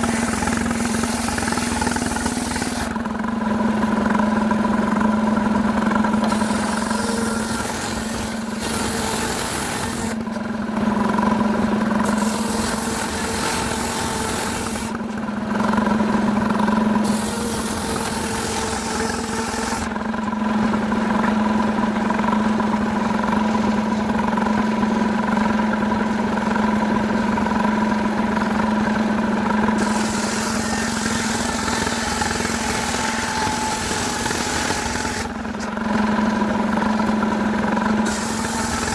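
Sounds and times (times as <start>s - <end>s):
chainsaw running at high revs: 0.0s - 20.1s, 26.4s - 38.9s.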